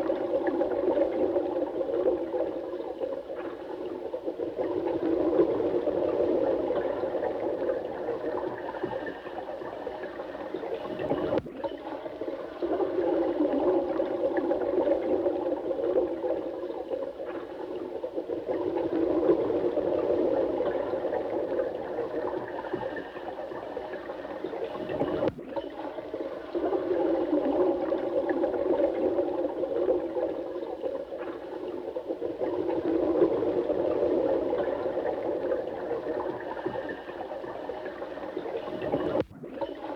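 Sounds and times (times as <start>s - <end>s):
running water gurgling: 0.0s - 39.9s.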